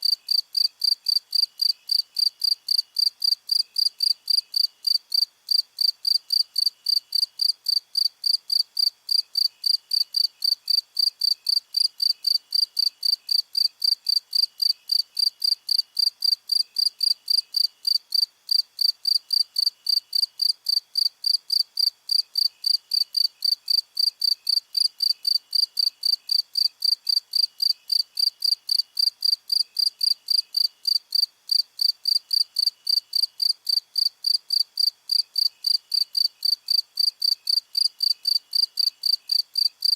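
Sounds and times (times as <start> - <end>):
fainter lower cricket chirping: 0.0 - 39.9
loud high cricket chirps: 0.0 - 39.9.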